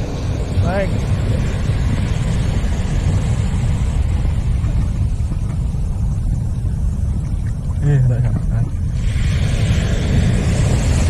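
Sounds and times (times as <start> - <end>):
surf washing on shore: 0.0 - 11.0
wind buffeting microphone: 0.0 - 11.0.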